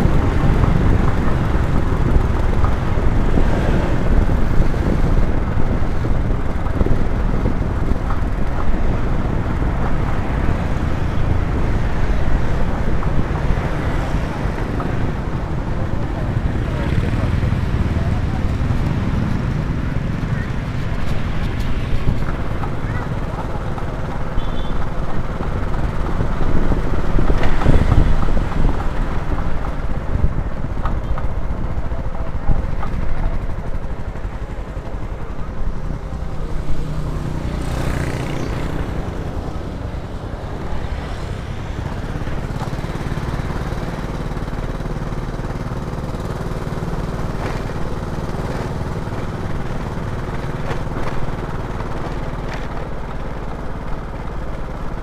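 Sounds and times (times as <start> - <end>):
road and wind noise: 0.0 - 55.0
scooter engine running: 0.0 - 55.0.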